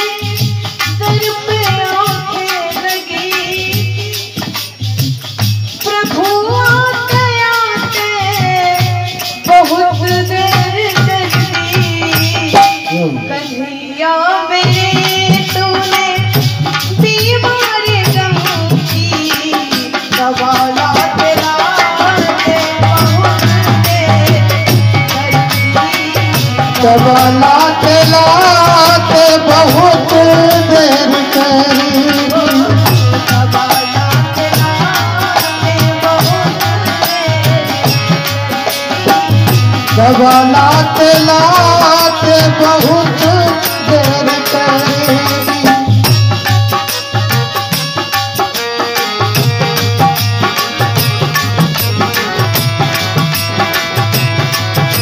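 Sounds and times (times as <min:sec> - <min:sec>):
tabla rhythm: 0:00.0 - 0:55.0.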